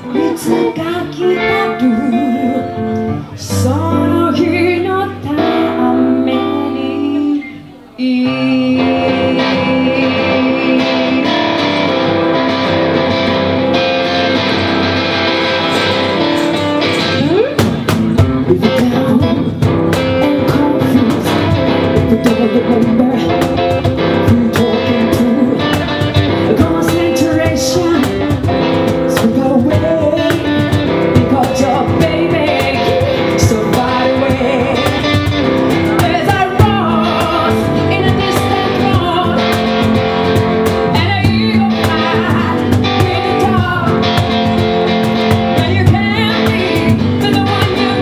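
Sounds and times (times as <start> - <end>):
woman singing: 0.0 - 13.2, 18.3 - 48.0
guitar: 0.0 - 48.0
cajon beats: 9.4 - 48.0.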